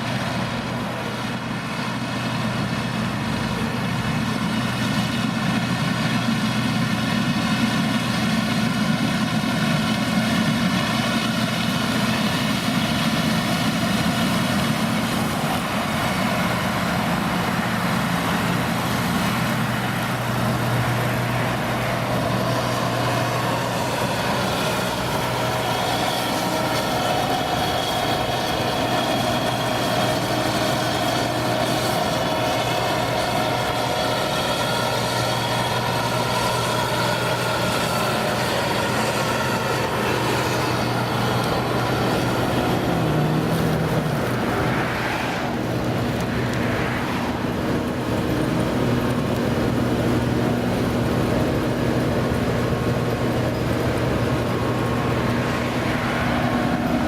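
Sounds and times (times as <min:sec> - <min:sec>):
farm machinery diesel engine: 0:00.0 - 0:57.0.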